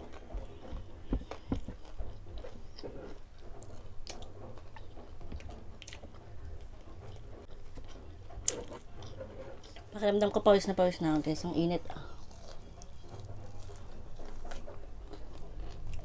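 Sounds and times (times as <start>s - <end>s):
person chewing crispy food: 0.0s - 10.0s, 11.8s - 16.0s.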